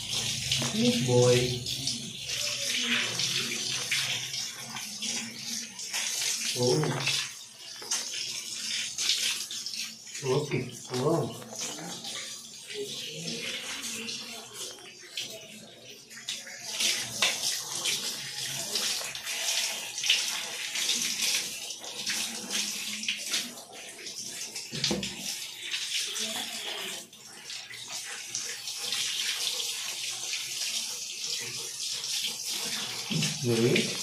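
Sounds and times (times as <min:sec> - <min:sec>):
shower hose spraying water: 0:00.0 - 0:34.0.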